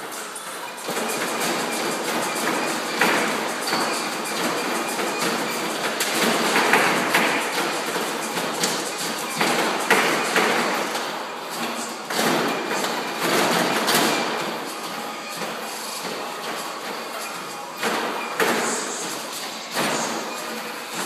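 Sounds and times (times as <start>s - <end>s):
music playing: 0.0s - 21.0s
shoes thumping on treadmill belt: 0.1s - 21.0s.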